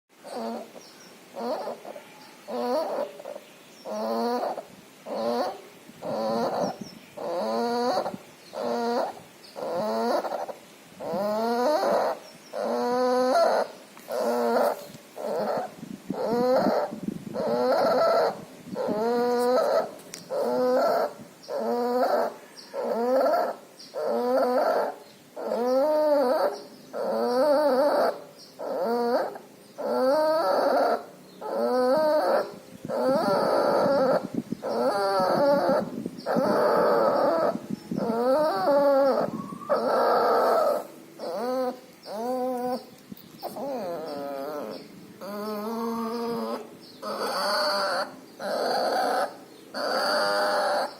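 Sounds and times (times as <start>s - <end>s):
puppy labored breathing with whine: 1.4s - 50.9s.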